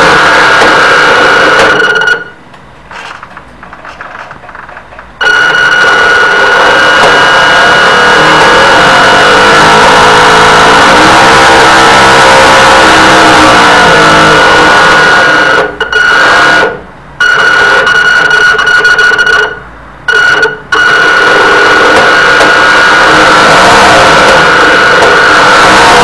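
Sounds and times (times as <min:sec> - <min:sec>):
propeller drive whining: 0:00.0 - 0:02.2, 0:03.1 - 0:19.6, 0:20.3 - 0:26.0.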